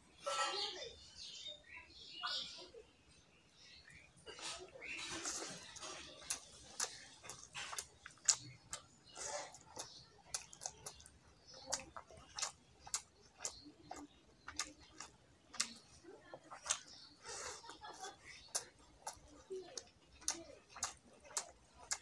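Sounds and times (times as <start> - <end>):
soft squelches: 0.0 - 22.0
wet chewing mouth clicks: 4.3 - 22.0.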